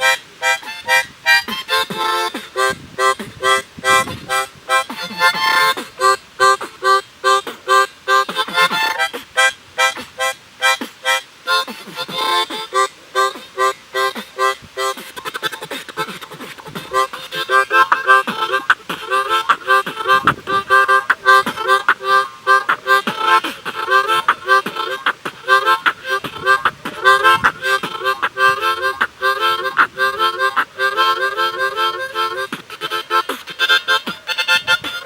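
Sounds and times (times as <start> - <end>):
harmonica beatboxing: 0.0 - 35.0.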